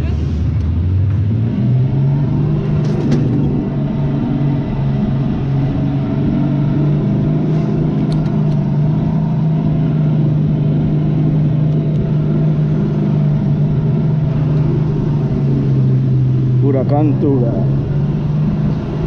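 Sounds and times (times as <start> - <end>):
car engine droning steadily: 0.0 - 19.0.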